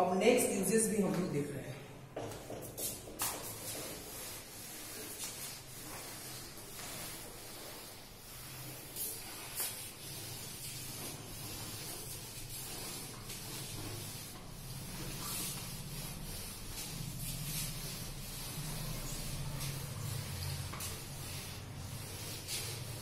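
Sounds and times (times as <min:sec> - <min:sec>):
duster rubbing chalk off blackboard: 0:02.2 - 0:23.0.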